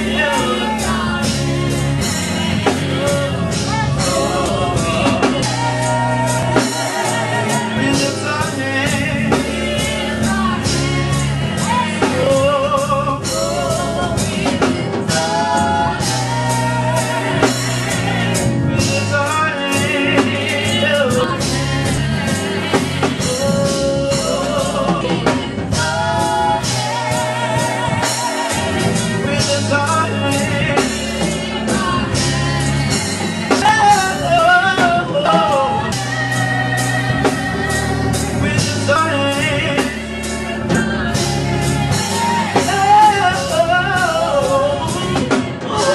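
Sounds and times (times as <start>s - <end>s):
band with drum beat and bass: 0.0s - 45.9s
people singing gospel: 0.0s - 45.9s.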